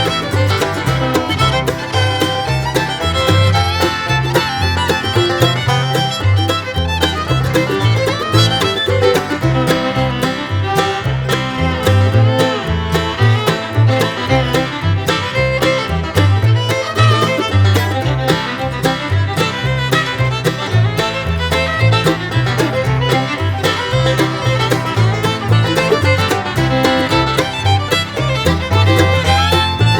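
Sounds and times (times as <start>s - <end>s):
upbeat bluegrass music: 0.0s - 29.9s.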